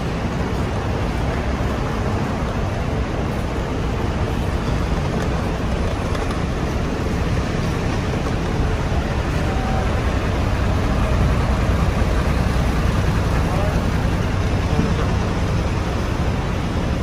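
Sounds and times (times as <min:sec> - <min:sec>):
buses idling: 0:00.0 - 0:17.0
road traffic: 0:00.0 - 0:17.0.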